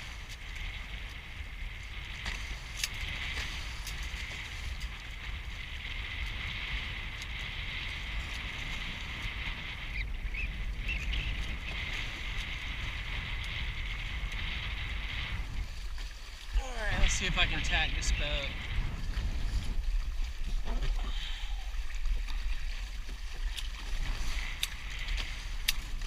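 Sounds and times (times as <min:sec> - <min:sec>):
water rushing past boat hulls: 0:00.0 - 0:26.0
wind buffeting the microphone: 0:00.0 - 0:26.0.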